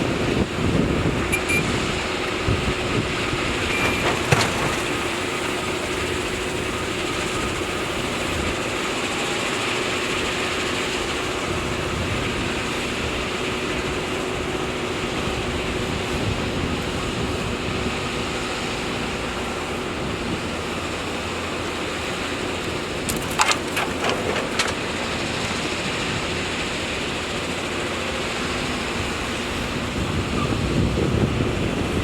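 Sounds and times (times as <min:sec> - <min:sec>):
heavy machinery diesel engines: 0:00.0 - 0:32.0.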